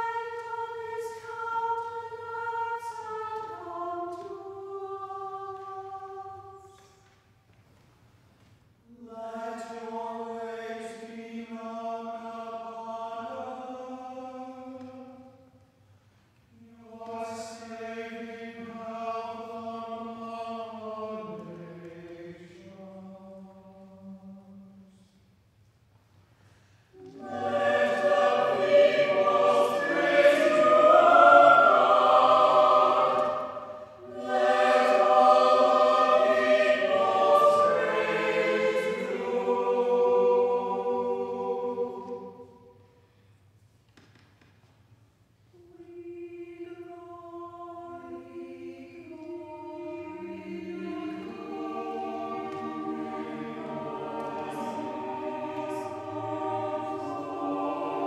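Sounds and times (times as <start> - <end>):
choir singing a cappella: 0.0 - 7.0, 8.8 - 15.6, 16.5 - 25.2, 26.9 - 43.1, 45.5 - 58.0.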